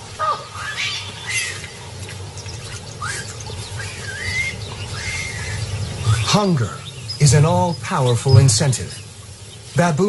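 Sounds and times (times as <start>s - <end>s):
low steady hum: 0.0s - 10.0s
baboons calling: 0.1s - 9.7s.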